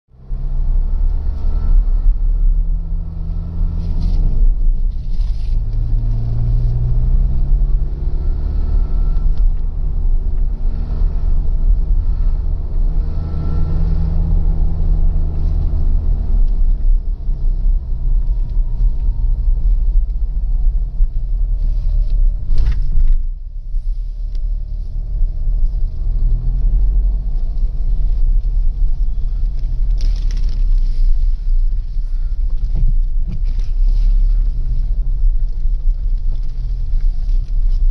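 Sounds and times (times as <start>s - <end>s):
engine revving with deep rumble: 0.1s - 37.9s.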